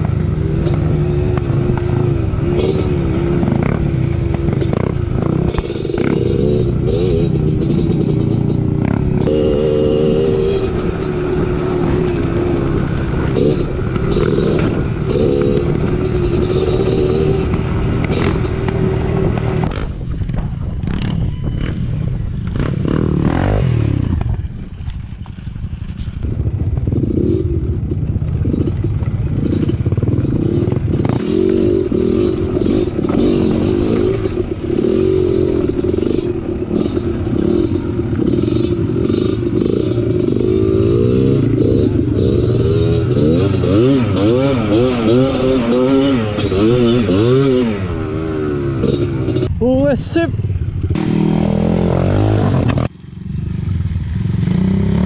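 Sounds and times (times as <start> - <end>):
dirt bike engine revving: 0.0 - 20.0, 22.5 - 24.5, 26.3 - 55.0.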